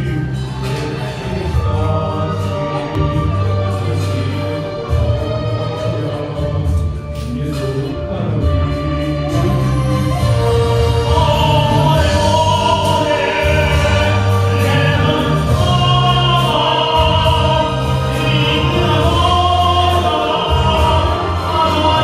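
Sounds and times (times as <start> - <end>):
bass line: 0.0 - 22.0
person singing long held notes: 0.0 - 22.0.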